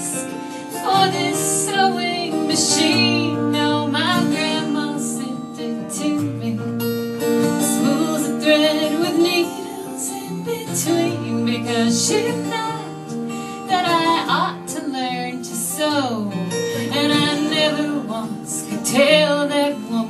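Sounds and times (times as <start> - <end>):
person singing: 0.0 - 6.8, 7.5 - 20.0
strummed acoustic guitar: 0.0 - 20.0.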